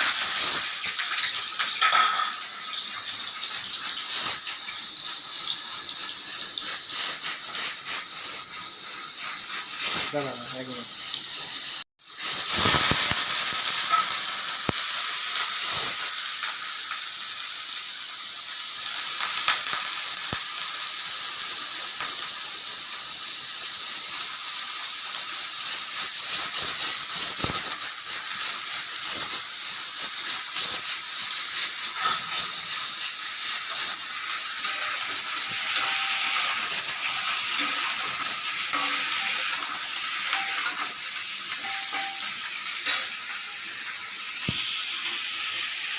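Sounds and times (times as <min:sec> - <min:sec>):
potatoes sizzling in oil: 0:00.0 - 0:45.9
steam hissing from pressure cooker: 0:00.0 - 0:45.9.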